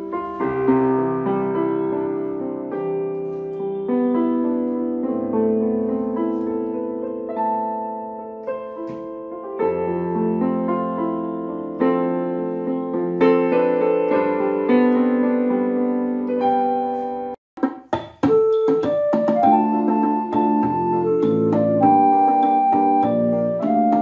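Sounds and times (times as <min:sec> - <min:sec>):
keyboard piano chords: 0:00.0 - 0:24.0.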